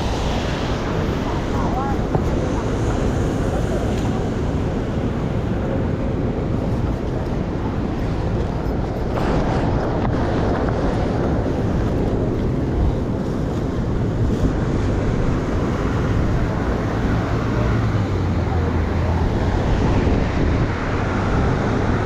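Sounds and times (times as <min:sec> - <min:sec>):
traffic rumble: 0:00.0 - 0:22.0
wind buffeting microphone: 0:00.0 - 0:22.0.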